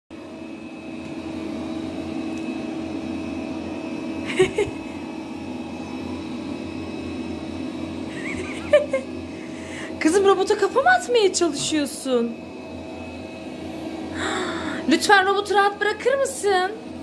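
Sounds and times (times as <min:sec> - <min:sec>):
robot vacuum cleaner running: 0:00.2 - 0:17.0.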